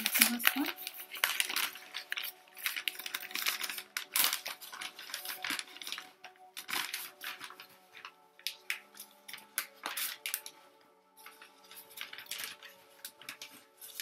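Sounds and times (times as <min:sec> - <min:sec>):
paper wrapping rustling: 0:00.0 - 0:14.0.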